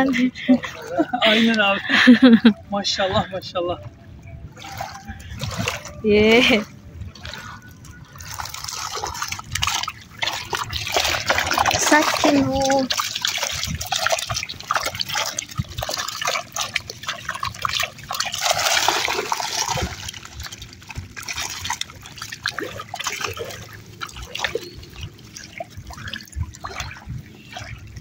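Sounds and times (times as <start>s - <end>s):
fish splashing in water: 4.5s - 28.0s.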